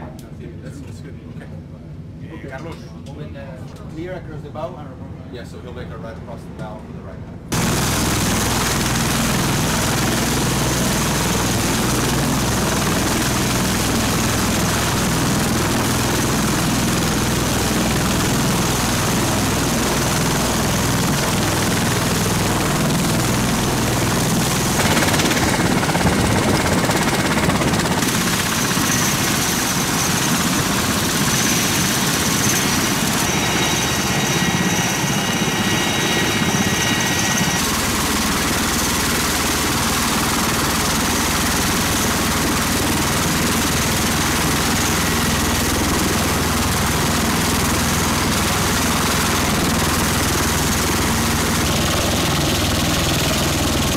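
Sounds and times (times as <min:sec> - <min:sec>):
aircraft engine noise: 0:07.5 - 0:53.9
high steady whine: 0:07.5 - 0:53.9
rotor blades thrumming: 0:07.5 - 0:53.9.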